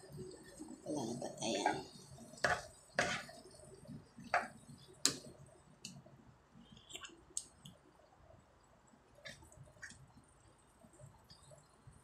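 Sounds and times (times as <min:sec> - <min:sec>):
stew simmering with soft pops: 0:00.0 - 0:12.0.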